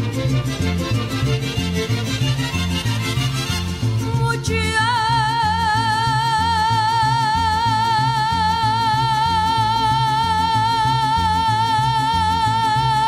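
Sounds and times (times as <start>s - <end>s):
bass line alternating notes: 0.0s - 13.0s.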